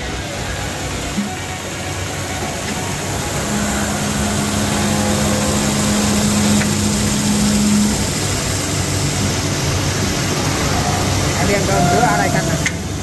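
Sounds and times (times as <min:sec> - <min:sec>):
steady hum: 0:00.0 - 0:13.0
wood lathe sanding: 0:00.0 - 0:13.0.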